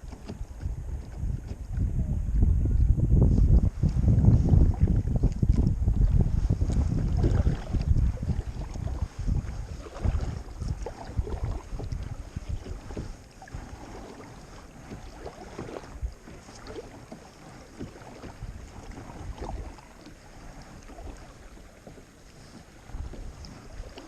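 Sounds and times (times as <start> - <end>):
paddle splashing and dripping: 0.0 - 1.8, 3.8 - 24.0
wind on microphone: 0.0 - 24.0.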